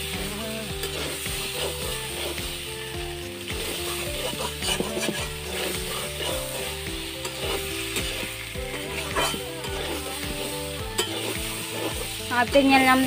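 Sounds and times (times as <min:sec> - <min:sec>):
food frying hiss: 0:00.0 - 0:13.0
spatula scraping metal pan: 0:00.7 - 0:13.0.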